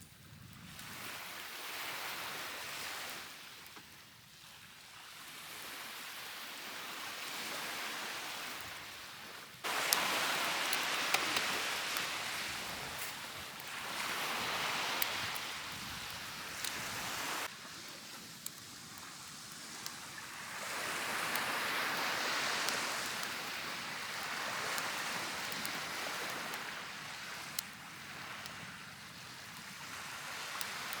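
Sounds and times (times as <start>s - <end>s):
ocean waves washing on beach: 0.0s - 31.0s
bonfire crackling: 6.2s - 31.0s.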